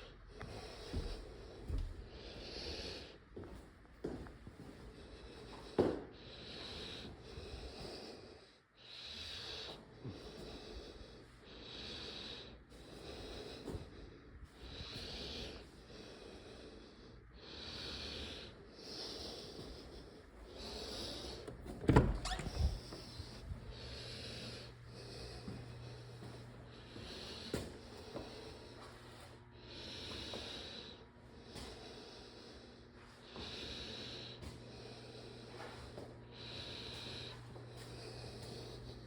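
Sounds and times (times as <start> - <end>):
person breathing heavily: 0.0 - 3.5, 4.8 - 39.0.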